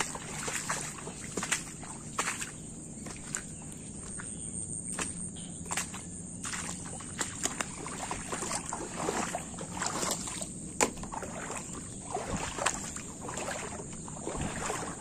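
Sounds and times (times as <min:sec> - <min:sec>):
footsteps wading through water: 0:00.0 - 0:15.0.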